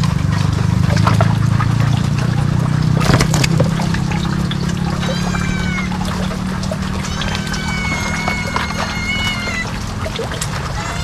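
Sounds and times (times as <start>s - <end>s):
drawn-out animal calls: 0.0s - 11.0s
water pouring and trickling: 0.0s - 11.0s.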